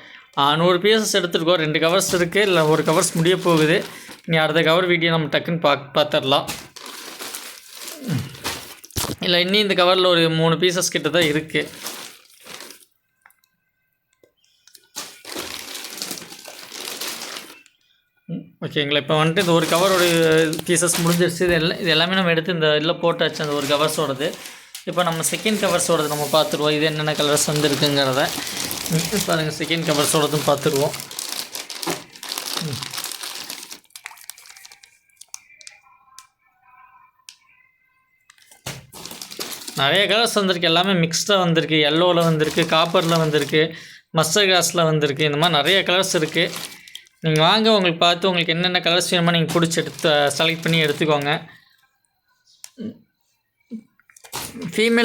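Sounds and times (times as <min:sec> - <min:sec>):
plastic bag crinkling: 0:01.2 - 0:04.7, 0:06.1 - 0:10.0, 0:10.7 - 0:13.4, 0:14.6 - 0:17.9, 0:19.1 - 0:22.3, 0:23.1 - 0:36.3, 0:38.3 - 0:51.9, 0:54.1 - 0:55.0.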